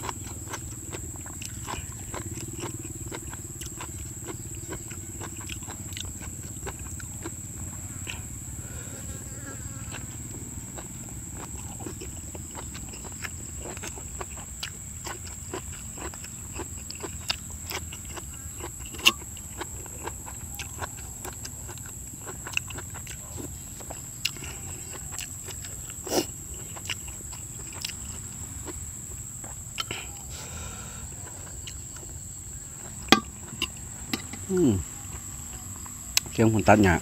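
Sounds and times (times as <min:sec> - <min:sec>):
person chewing: 0:00.0 - 0:08.5, 0:09.6 - 0:36.4
insects droning: 0:00.0 - 0:37.0.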